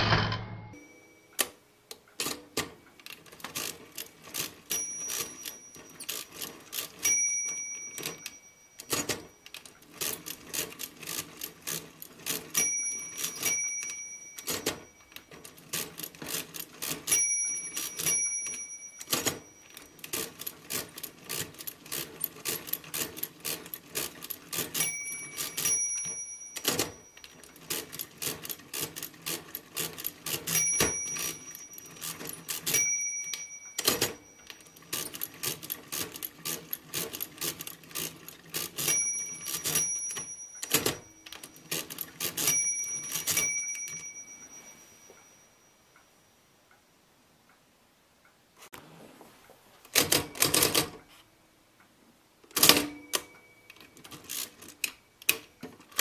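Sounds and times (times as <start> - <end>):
calculator bell ringing: 0.7 - 1.6, 3.1 - 46.4, 50.0 - 50.9, 52.6 - 56.0
mechanical calculator clattering: 2.2 - 44.6, 49.9 - 51.0, 52.5 - 56.0.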